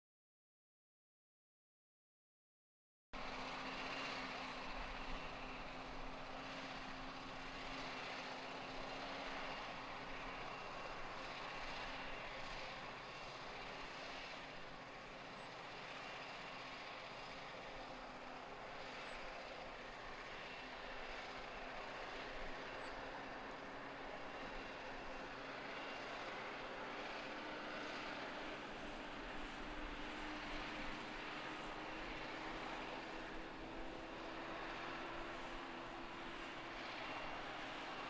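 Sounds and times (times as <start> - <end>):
tractor diesel engine running: 3.2 - 38.0.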